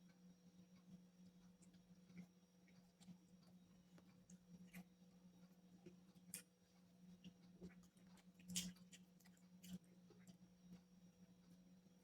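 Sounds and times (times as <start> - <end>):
faint chewing: 0.7 - 11.6.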